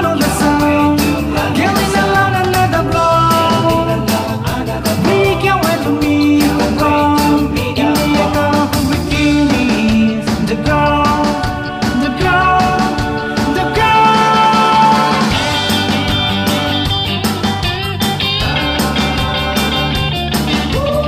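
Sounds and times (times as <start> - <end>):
song with steady drum beat: 0.0 - 21.0.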